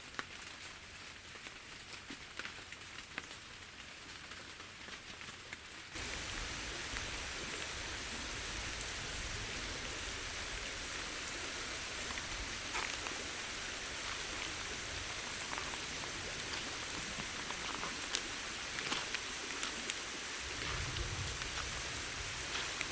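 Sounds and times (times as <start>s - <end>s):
steady rain: 0.0s - 22.9s.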